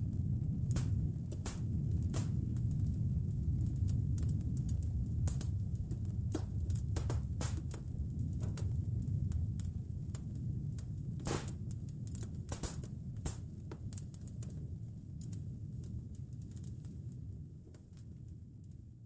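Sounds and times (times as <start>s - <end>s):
low steady rumble: 0.0s - 19.0s
wood fire crackling: 0.0s - 19.0s.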